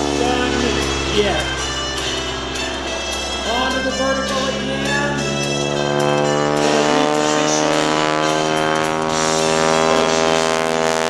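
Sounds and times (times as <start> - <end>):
biplane radial engine drone: 0.0 - 11.0.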